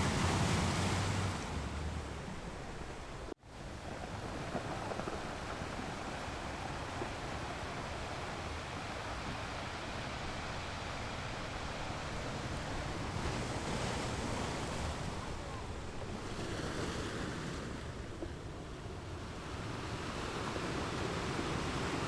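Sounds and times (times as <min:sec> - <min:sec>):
ocean waves on shore: 0:00.0 - 0:22.0.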